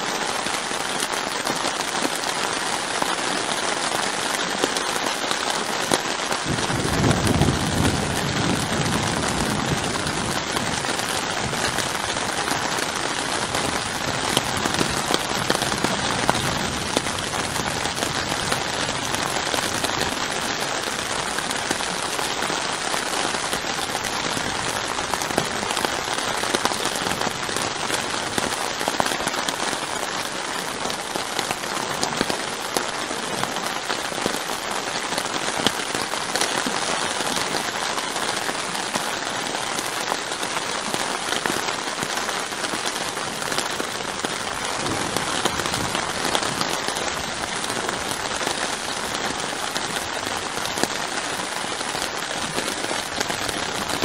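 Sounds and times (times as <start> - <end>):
rain on a tarp tent roof: 0.0 - 54.0.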